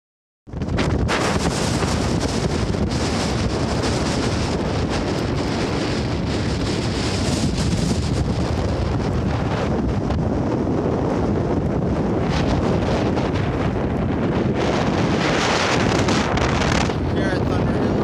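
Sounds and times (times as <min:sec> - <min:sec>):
wind buffeting microphone: 0:00.5 - 0:18.0.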